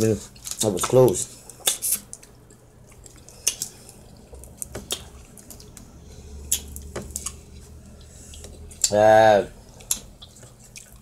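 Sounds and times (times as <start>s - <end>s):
food cracking and clicking: 0.3s - 9.0s, 9.7s - 11.0s.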